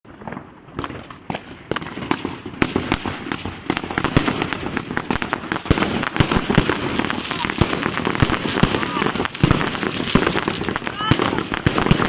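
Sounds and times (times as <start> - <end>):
fireworks cracking and banging: 0.1 - 12.0.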